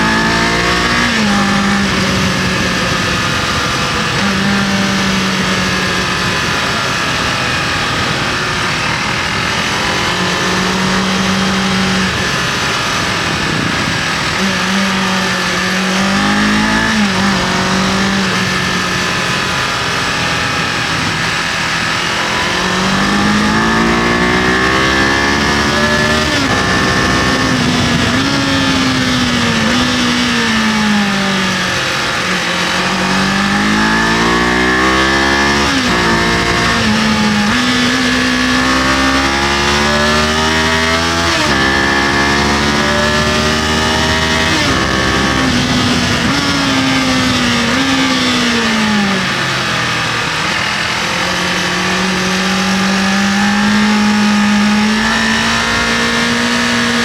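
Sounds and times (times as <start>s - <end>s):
wind rush: 0.0s - 39.4s, 40.2s - 50.8s
motorcycle engine revving: 0.0s - 57.0s.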